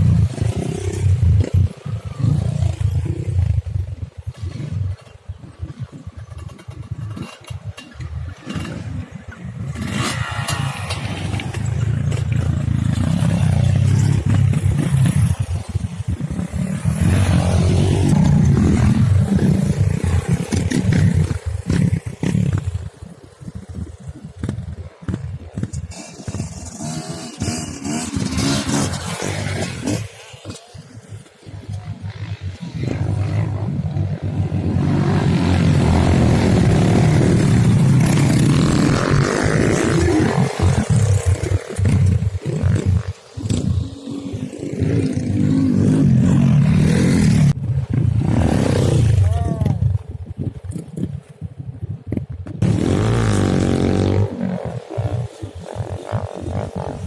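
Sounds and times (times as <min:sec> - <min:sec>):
motorcycle engine under throttle: 0:05.6 - 0:49.3, 0:52.0 - 0:57.0.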